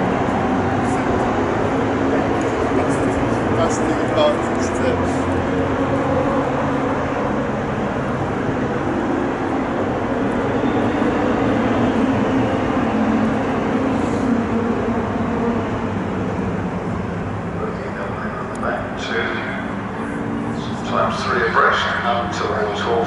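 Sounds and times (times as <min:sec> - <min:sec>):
racing car engines at speed: 0:00.0 - 0:23.0.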